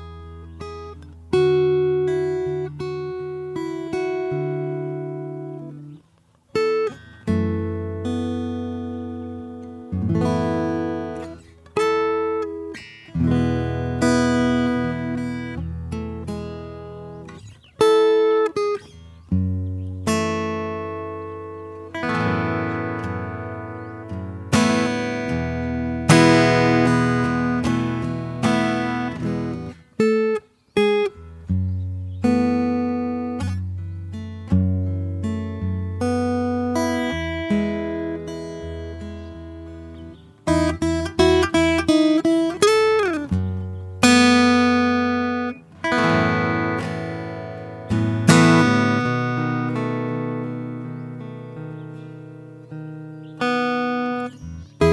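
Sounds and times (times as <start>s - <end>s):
acoustic guitar playing slowly: 0.0s - 54.9s.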